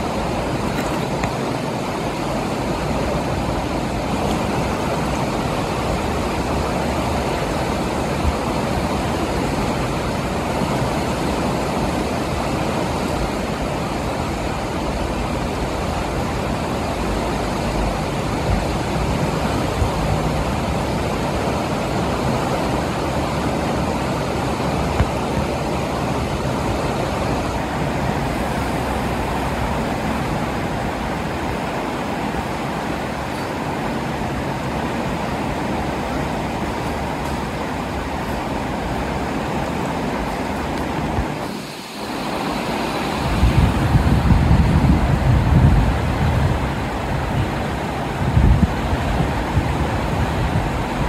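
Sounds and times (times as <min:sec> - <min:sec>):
fast-flowing floodwater rushing: 0:00.0 - 0:51.0.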